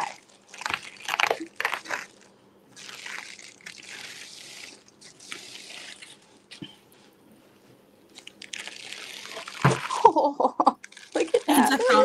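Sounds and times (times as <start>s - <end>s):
plastic sleeve crinkling: 0.0s - 6.7s, 8.1s - 10.2s, 10.8s - 11.8s.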